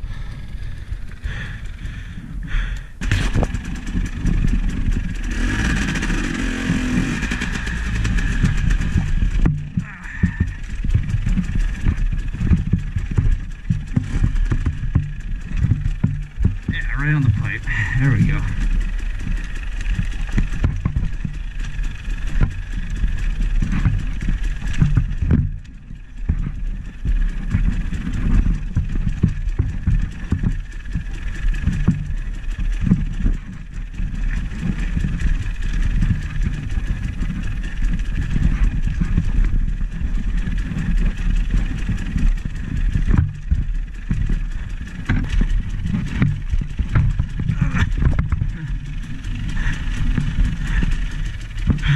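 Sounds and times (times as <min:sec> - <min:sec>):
vehicle engine rumbling: 0:00.0 - 0:51.9.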